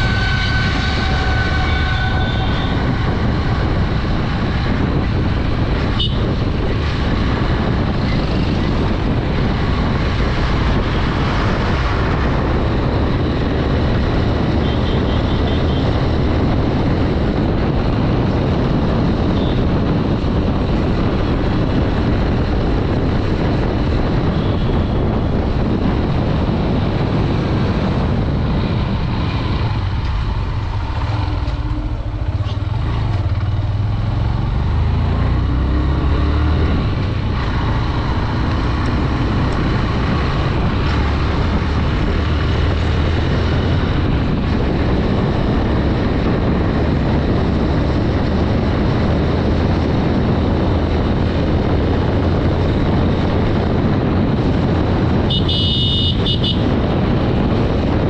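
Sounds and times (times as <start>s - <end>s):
motorcycle engine running: 2.2s - 58.0s.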